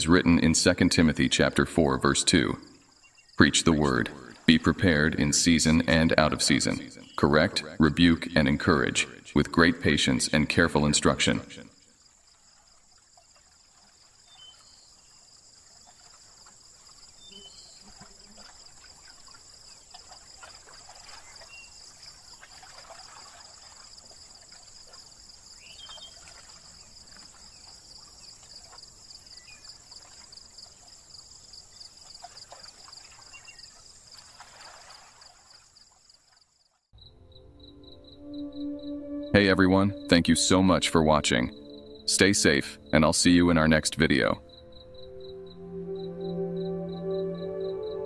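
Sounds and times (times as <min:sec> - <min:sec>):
crickets chirring: 0:00.0 - 0:48.0.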